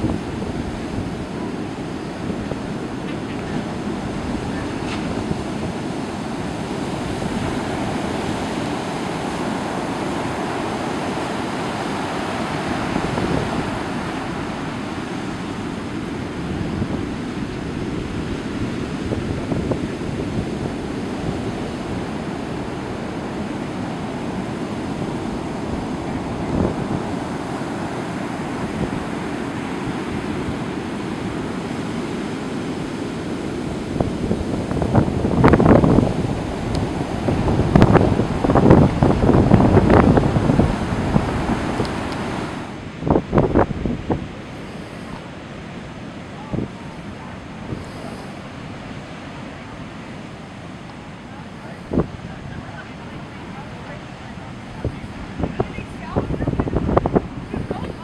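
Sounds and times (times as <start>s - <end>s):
waves breaking: 0.0s - 58.0s
wind buffeting microphone: 0.0s - 58.0s.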